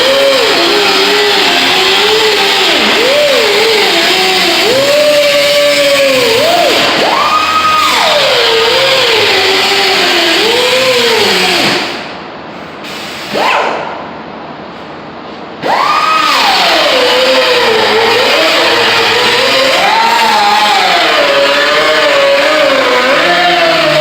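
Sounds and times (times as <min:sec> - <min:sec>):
power tool grinding metal: 0:00.0 - 0:12.0, 0:15.6 - 0:24.0.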